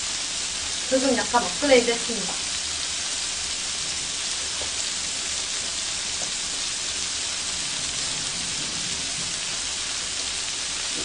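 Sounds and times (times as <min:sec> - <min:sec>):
meat sizzling on a grill plate: 0:00.0 - 0:11.0.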